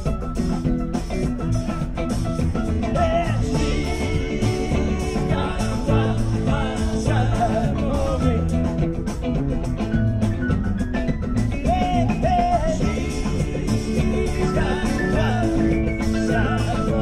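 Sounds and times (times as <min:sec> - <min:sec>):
bass guitar: 0:00.0 - 0:17.0
drums: 0:00.0 - 0:17.0
pitch-bending lead melody: 0:00.0 - 0:17.0.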